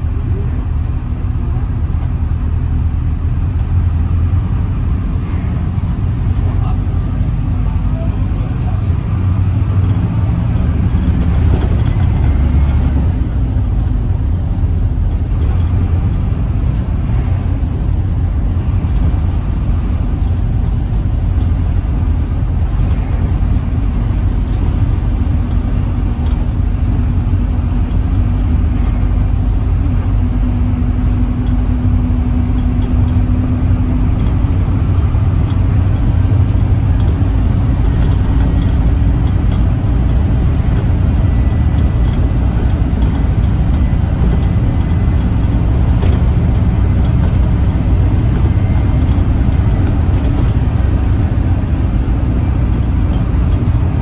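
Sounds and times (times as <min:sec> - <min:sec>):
diesel engine drone: 0:00.0 - 0:54.0
road rumble: 0:00.0 - 0:54.0.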